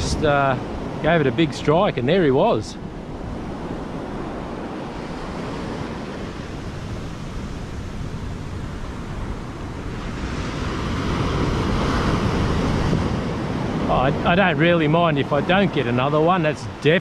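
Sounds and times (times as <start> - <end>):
ocean surf breaking on beach: 0.0 - 17.0
wind buffeting microphone: 0.0 - 17.0.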